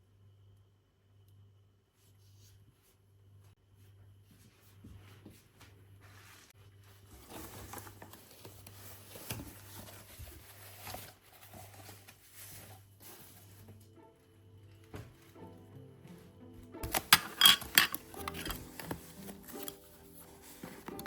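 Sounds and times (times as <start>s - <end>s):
faint low hum: 0.0s - 17.9s
rustling of household items: 2.0s - 21.0s.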